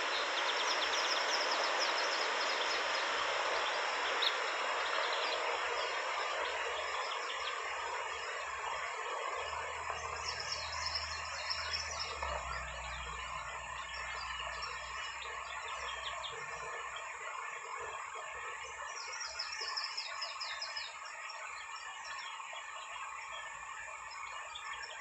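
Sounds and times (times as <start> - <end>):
songbirds chirping faintly: 0.0 - 25.0
wind-like outdoor hiss: 0.0 - 25.0.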